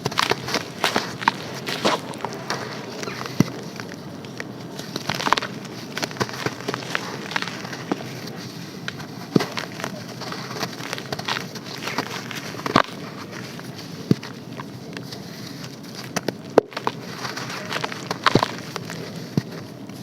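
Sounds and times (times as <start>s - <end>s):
sand and charcoal crunching: 0.0s - 20.0s.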